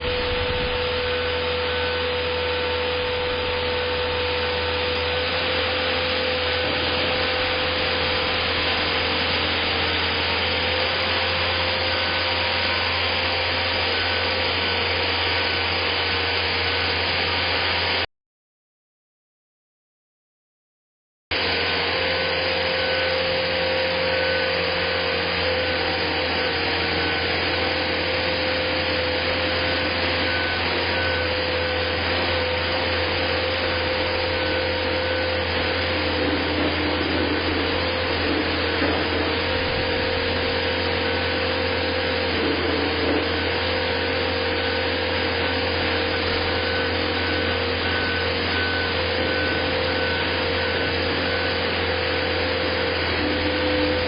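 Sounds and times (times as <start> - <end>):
machine drone with low hum: 0.0 - 16.8, 21.4 - 54.0.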